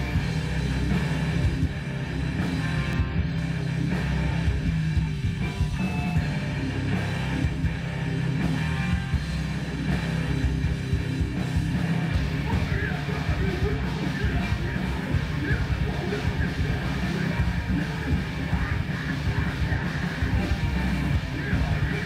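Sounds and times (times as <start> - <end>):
loud rock music: 0.0 - 22.0.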